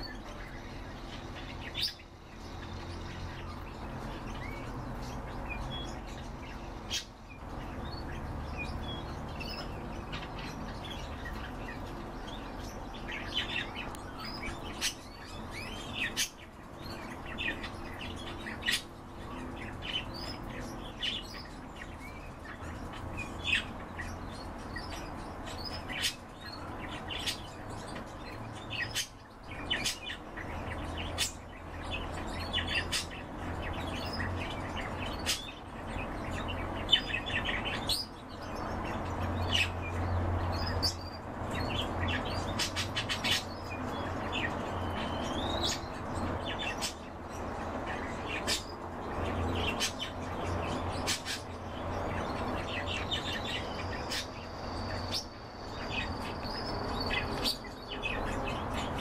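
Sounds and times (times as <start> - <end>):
caged birds chirping: 0.0 - 59.0.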